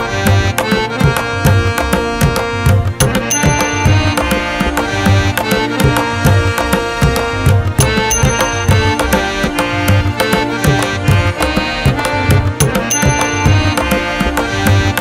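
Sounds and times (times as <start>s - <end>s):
sustained melodic tones: 0.0s - 15.0s
hand drum beat: 0.3s - 15.0s.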